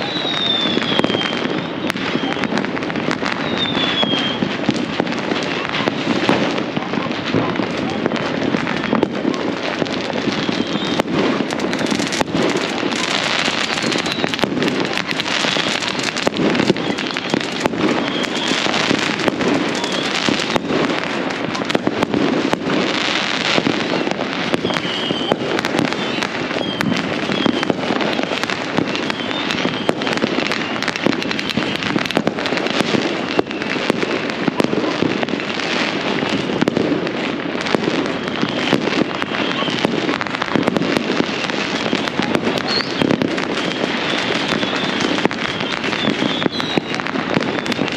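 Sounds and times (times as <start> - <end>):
fireworks and firecrackers crackling: 0.0 - 47.9.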